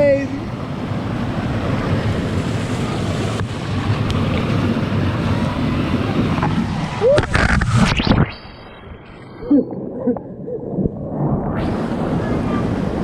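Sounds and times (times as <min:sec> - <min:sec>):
rushing water: 0:00.0 - 0:07.6, 0:08.8 - 0:13.0
wind buffeting microphone: 0:00.0 - 0:13.0.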